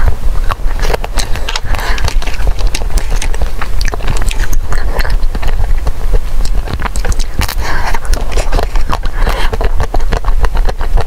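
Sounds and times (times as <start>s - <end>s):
crunching frozen ice cream: 0.0s - 11.0s
steady low rumble: 0.0s - 11.0s.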